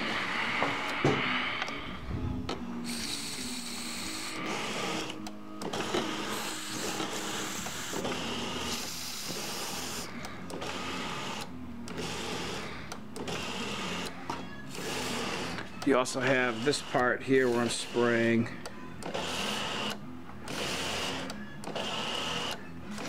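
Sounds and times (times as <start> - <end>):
low mechanical whir: 0.0 - 23.0.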